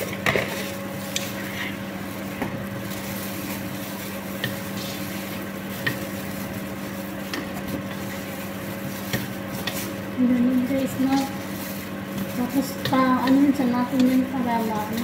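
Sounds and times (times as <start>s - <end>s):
steady low hum: 0.0s - 15.0s
wooden spoon stirring: 0.0s - 15.0s.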